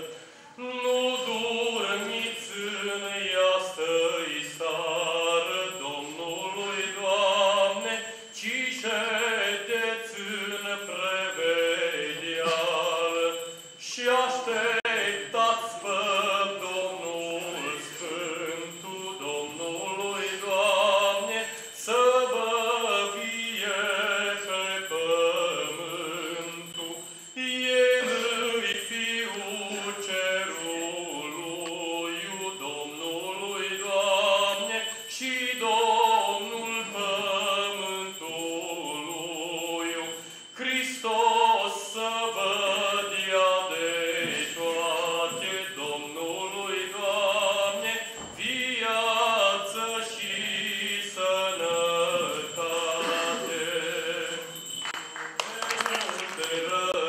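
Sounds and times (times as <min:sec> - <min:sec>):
man singing unaccompanied: 0:00.0 - 0:54.6, 0:55.7 - 0:57.0.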